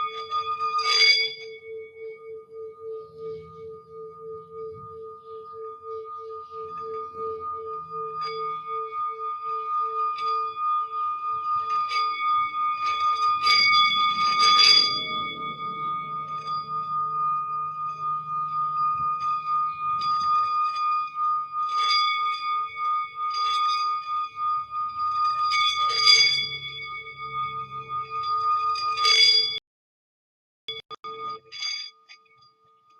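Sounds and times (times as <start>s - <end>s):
singing bowls ringing: 0.0s - 29.6s, 30.7s - 32.9s
struck bowl notes: 1.4s - 29.6s.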